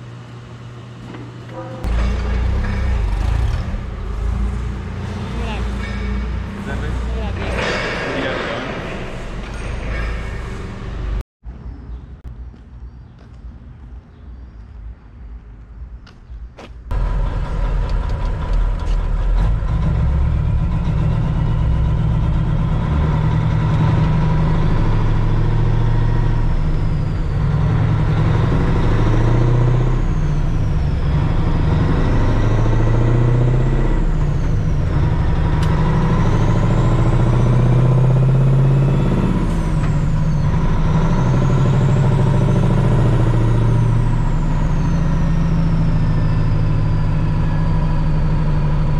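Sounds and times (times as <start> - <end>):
heavy truck engine running: 0.0 - 11.2, 16.9 - 48.9.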